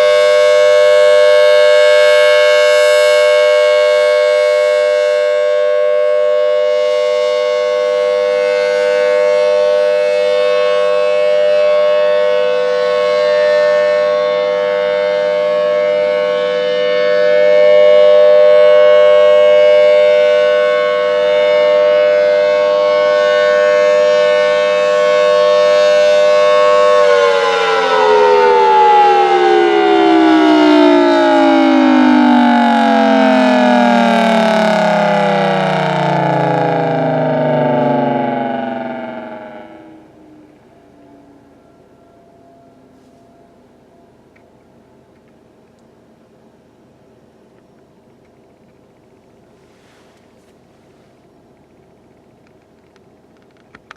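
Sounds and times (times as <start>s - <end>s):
tornado siren two-tone chord: 0.0s - 47.8s.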